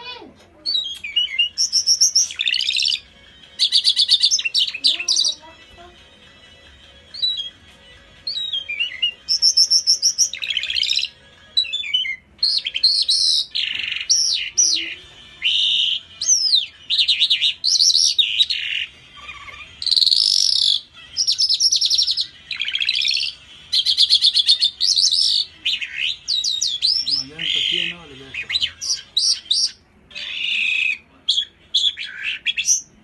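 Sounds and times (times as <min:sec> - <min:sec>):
songbird singing: 0:00.6 - 0:05.6, 0:07.1 - 0:33.0.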